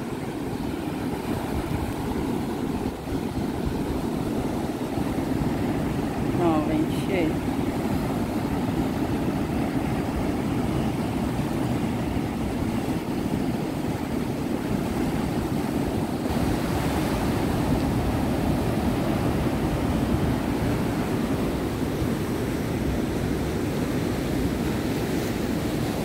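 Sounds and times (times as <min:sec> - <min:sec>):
ocean surf on beach: 0:00.0 - 0:26.0.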